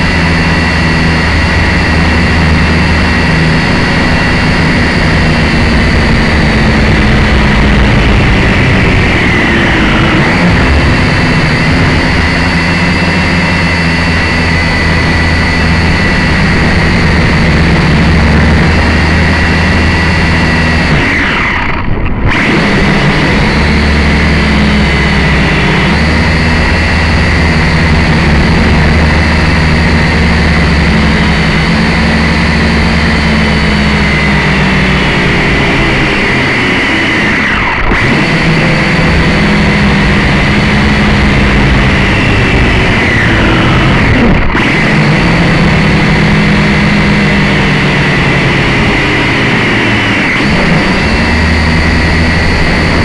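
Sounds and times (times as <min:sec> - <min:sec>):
drone propellers buzzing: 0:00.0 - 0:53.0.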